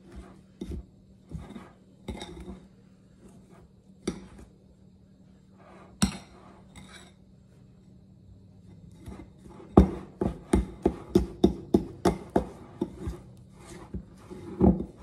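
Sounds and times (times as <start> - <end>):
fork scraping a bowl: 0.0 - 4.5, 5.6 - 7.2, 8.6 - 15.0.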